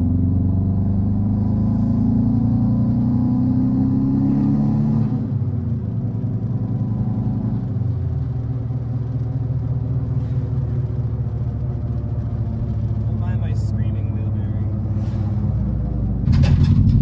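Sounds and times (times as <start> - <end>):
car engine from inside cabin: 0.0 - 17.0
road noise: 0.0 - 17.0.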